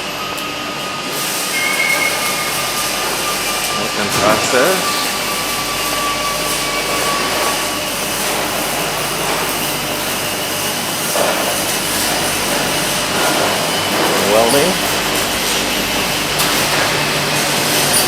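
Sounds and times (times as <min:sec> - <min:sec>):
factory machinery hum: 0:00.0 - 0:18.0.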